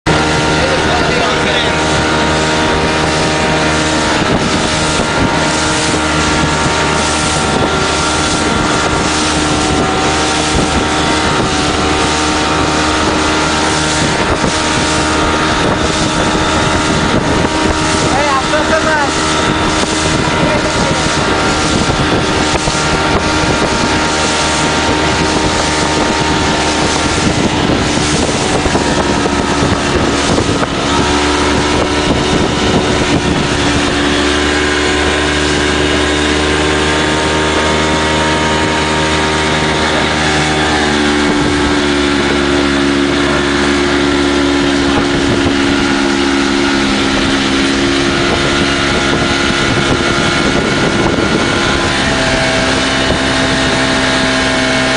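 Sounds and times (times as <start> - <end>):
rushing water: 0.0 - 54.9
speedboat engine running: 0.0 - 54.9
wind buffeting microphone: 0.0 - 54.9.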